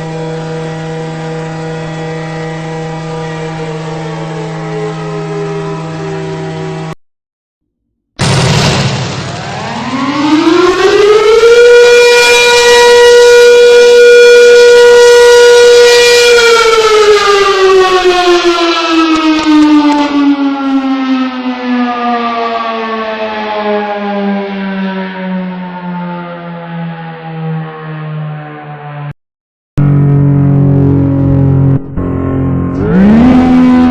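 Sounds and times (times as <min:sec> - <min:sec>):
warning siren wailing: 0:00.0 - 0:07.0, 0:09.3 - 0:29.2, 0:29.8 - 0:33.9.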